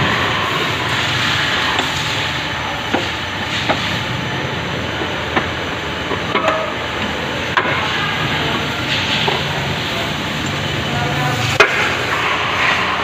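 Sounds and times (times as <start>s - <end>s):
machine shop din: 0.0s - 13.0s.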